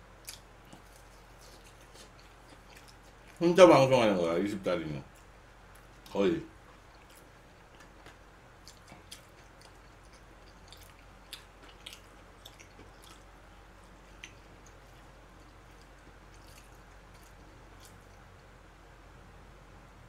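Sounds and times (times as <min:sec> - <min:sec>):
man chewing food: 0:00.0 - 0:03.9, 0:05.0 - 0:18.8
low steady hum: 0:00.0 - 0:20.0.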